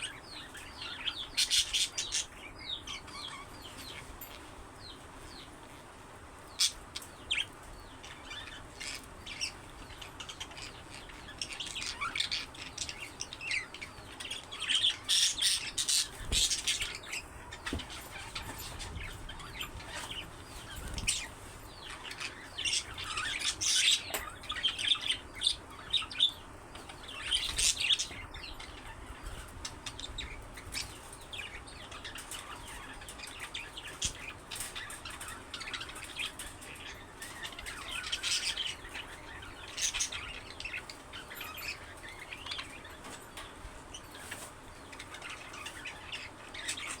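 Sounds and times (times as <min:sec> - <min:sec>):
budgerigars chirping: 0:00.0 - 0:04.0, 0:06.5 - 0:43.2.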